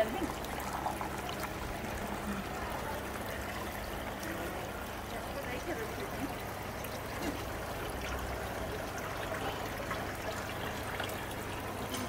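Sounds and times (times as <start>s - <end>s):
fountain water trickling: 0.0s - 12.0s.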